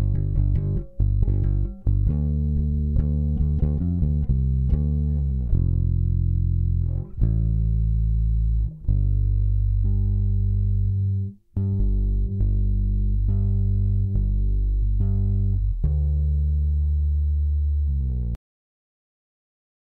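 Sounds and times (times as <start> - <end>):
bass guitar plucked notes: 0.0 - 18.4
faint high-pitched whine: 0.0 - 18.4.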